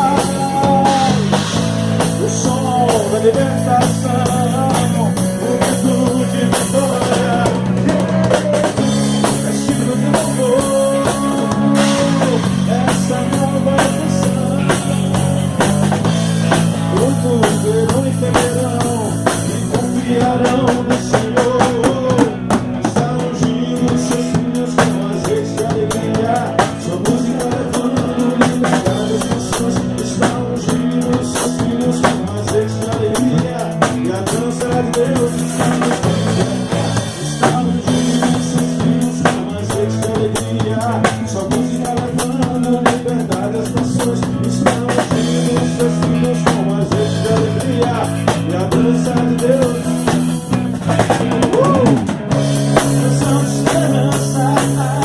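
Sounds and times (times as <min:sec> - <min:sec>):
drum kit beat with rimshots: 0:00.0 - 0:55.0
electric bass: 0:00.0 - 0:55.0
guitar playing chords: 0:00.0 - 0:55.0.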